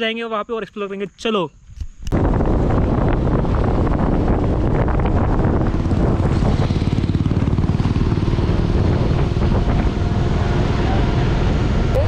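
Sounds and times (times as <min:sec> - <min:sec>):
wind rushing over microphone: 0:01.6 - 0:12.0
motorbike engine droning: 0:02.2 - 0:12.0.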